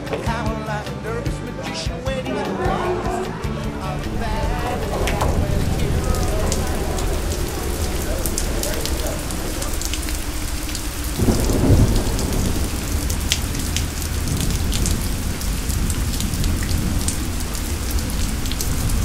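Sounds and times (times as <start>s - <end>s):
rain pattering: 3.3s - 19.0s
low roll of thunder: 3.7s - 19.0s.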